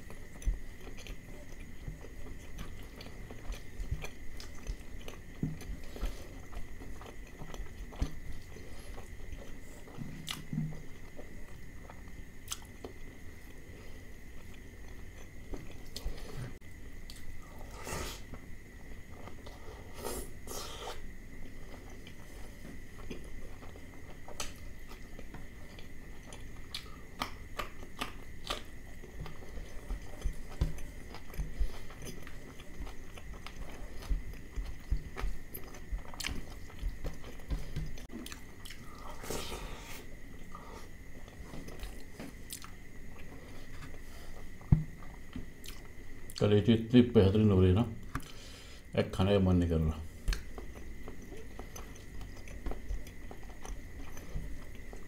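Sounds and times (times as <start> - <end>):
chewing with wet mouth sounds: 0.0 - 46.4, 50.1 - 55.0.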